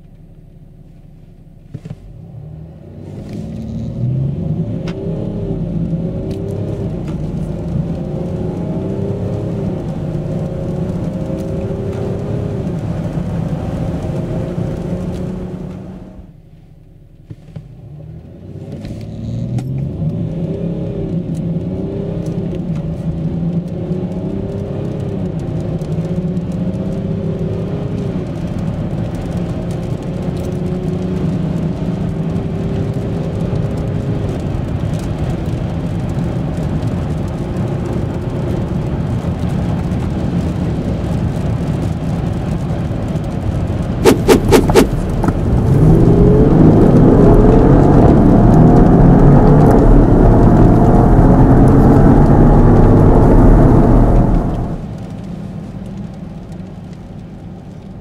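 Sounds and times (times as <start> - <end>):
diesel engine accelerating hard: 0.0 - 16.4, 17.8 - 55.4.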